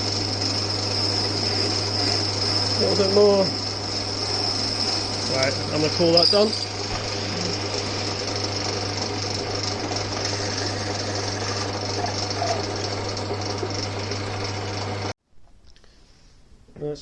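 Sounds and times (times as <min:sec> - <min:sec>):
metal lathe running: 0:00.0 - 0:15.1.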